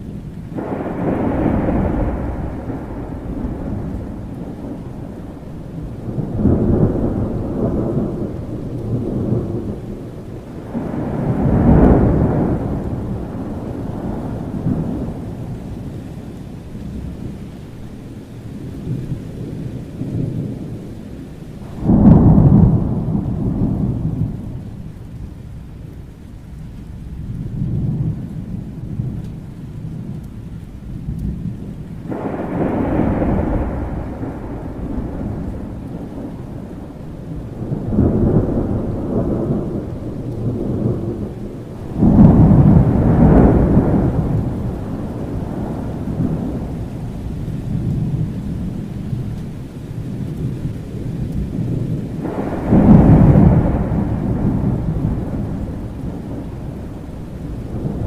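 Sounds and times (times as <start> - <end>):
rolling thunder: 0.0 - 58.0
steady rain: 0.0 - 58.0.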